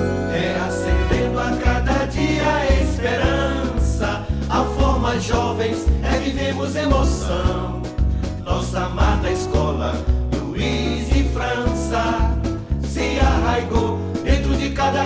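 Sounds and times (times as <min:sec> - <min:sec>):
instrumental accompaniment with bass: 0:00.0 - 0:15.0
voices singing: 0:00.0 - 0:15.0.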